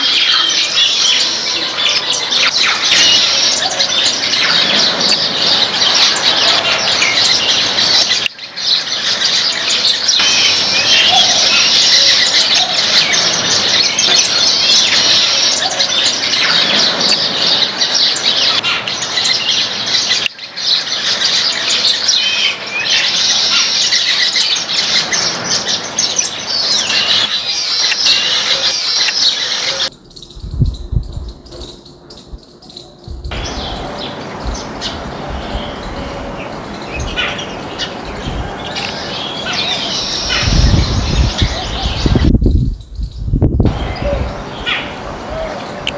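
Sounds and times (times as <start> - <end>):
flock of small birds chirping: 0.0 - 45.9.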